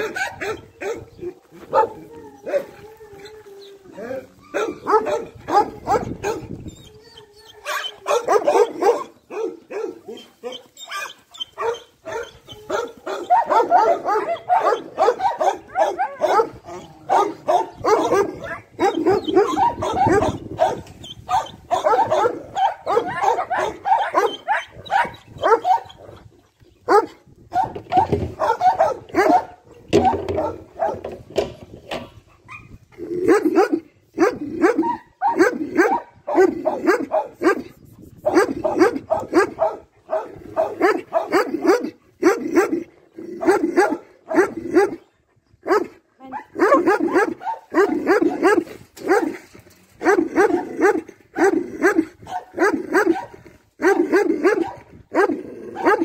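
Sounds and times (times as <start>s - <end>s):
dogs barking: 0.0s - 2.8s, 4.4s - 6.6s, 7.6s - 26.2s, 26.8s - 31.2s, 32.2s - 49.4s, 50.0s - 56.0s.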